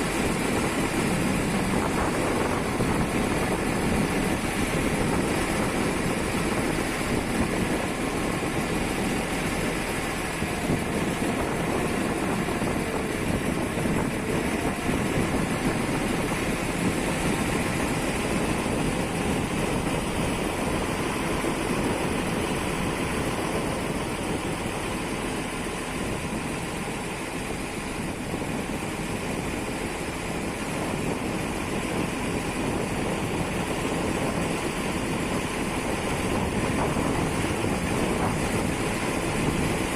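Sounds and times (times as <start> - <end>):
ferry engine running: 0.0 - 39.9.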